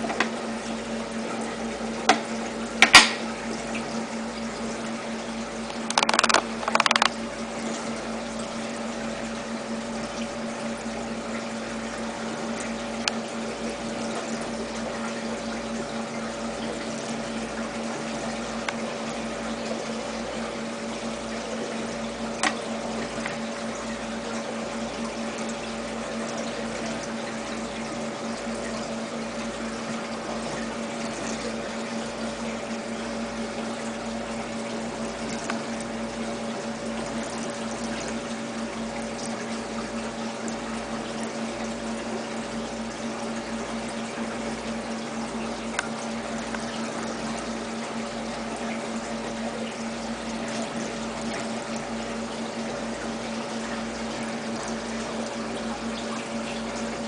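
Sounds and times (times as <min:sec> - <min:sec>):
running water: 0:00.0 - 0:57.0
small water pump running: 0:00.0 - 0:57.0.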